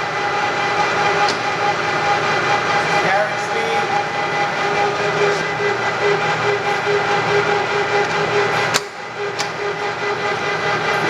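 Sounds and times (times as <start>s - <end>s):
lathe gear whine: 0.0s - 11.0s
mechanical hum: 0.0s - 11.0s.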